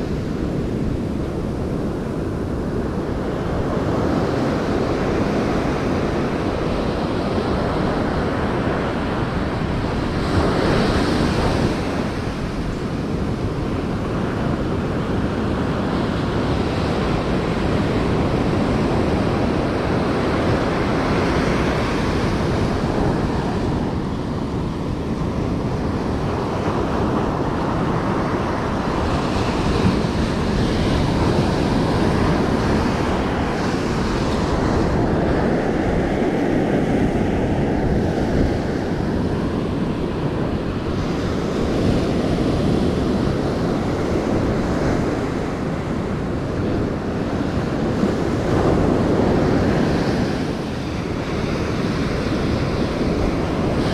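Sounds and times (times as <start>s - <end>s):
ocean surf breaking on beach: 0.0s - 53.9s
wind buffeting microphone: 0.0s - 53.9s.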